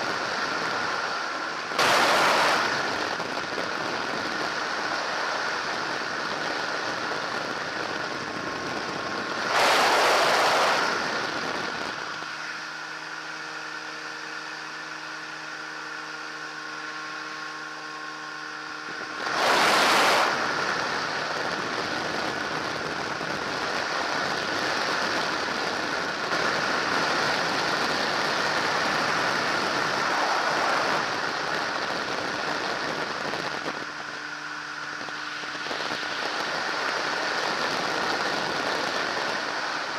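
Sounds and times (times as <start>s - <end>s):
aircraft engine drone: 0.0s - 39.9s
wind rush on microphone: 0.0s - 39.9s.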